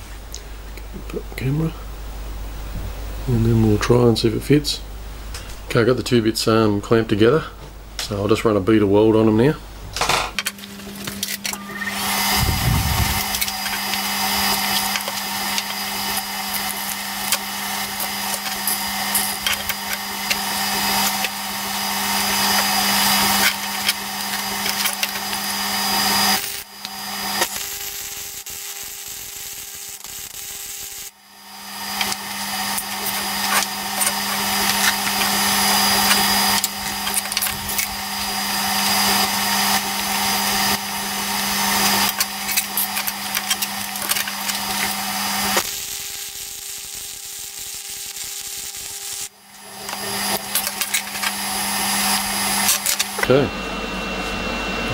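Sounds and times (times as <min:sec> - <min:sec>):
welder arc crackling and hissing: 0:00.0 - 0:54.9.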